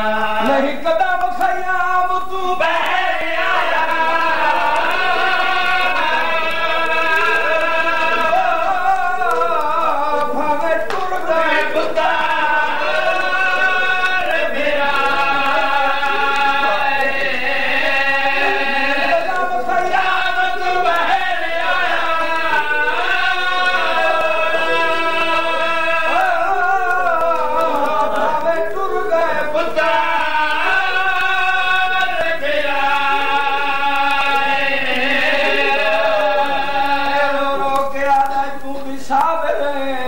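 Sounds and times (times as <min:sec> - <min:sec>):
men singing a lament: 0:00.0 - 0:40.0.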